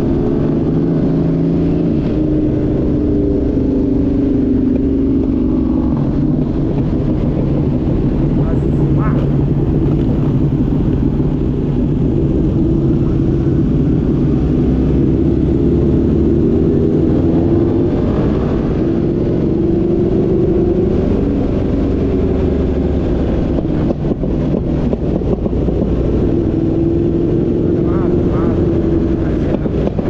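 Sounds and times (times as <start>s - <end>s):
vehicle engine and road drone: 0.0s - 30.0s.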